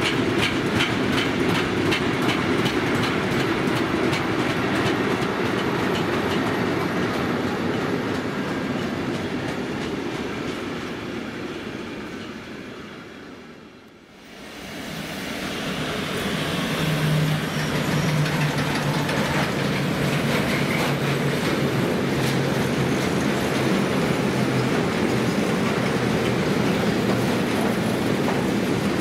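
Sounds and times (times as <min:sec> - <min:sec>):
train passing on track: 0:00.0 - 0:29.0.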